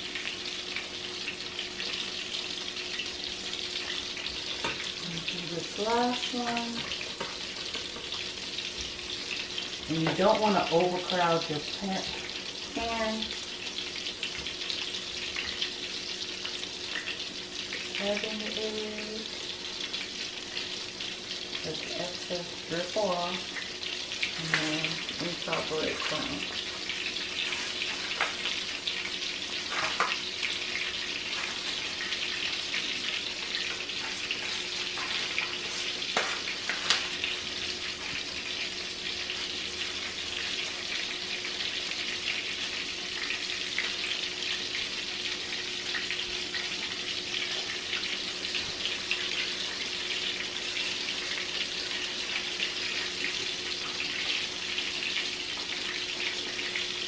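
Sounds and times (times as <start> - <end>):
fish sizzling in oil: 0.0 - 57.0.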